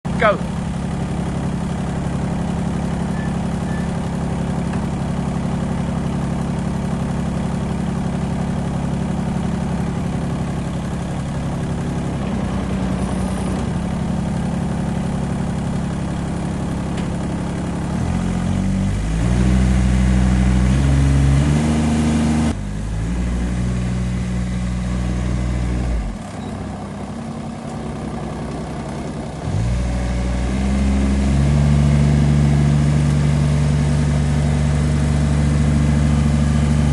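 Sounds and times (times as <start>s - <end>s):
mower diesel engine revving: 0.2s - 36.9s.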